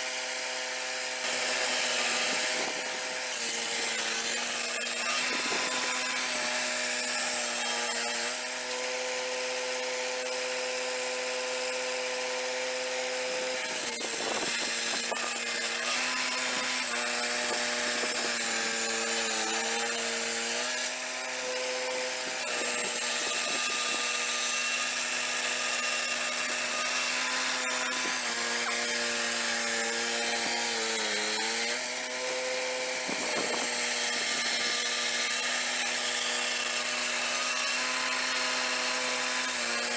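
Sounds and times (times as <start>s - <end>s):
circular saw blade cutting log: 0.0s - 39.9s.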